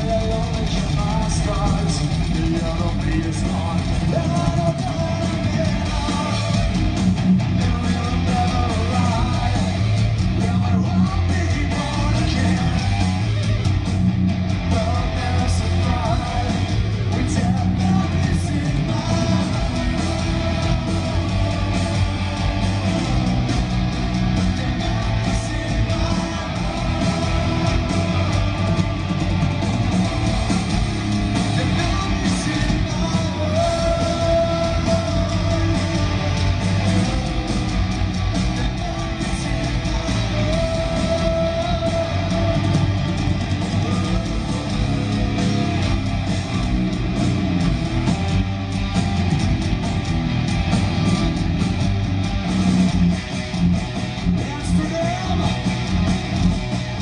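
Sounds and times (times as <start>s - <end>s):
distorted electric guitars: 0.0s - 57.0s
live heavy metal band playing: 0.0s - 57.0s.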